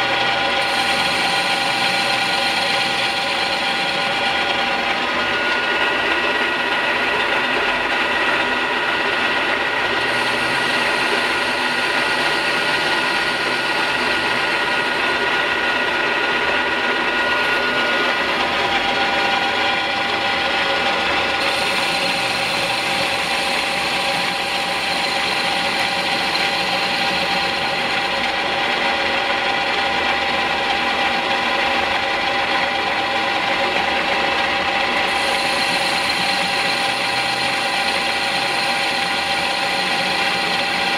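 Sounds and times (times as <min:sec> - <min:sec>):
lathe cutting metal: 0:00.0 - 0:40.9
machine whine: 0:00.0 - 0:40.9.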